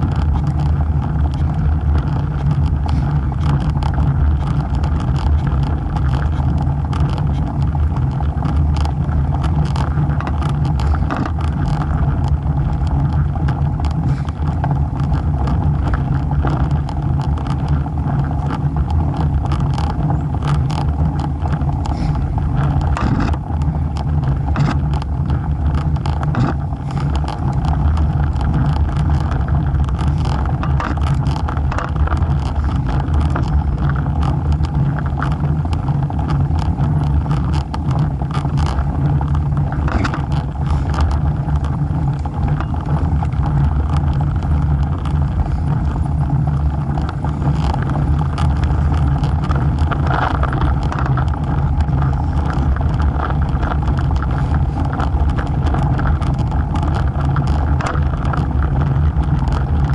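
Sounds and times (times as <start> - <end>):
bike ticks and rattles: 0.0 - 59.9
wind buffeting microphone: 0.0 - 59.9.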